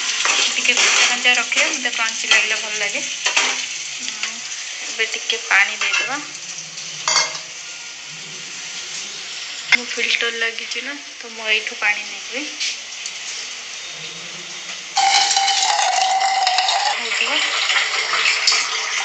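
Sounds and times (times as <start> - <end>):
vegetables sizzling in a wok: 0.0 - 19.0.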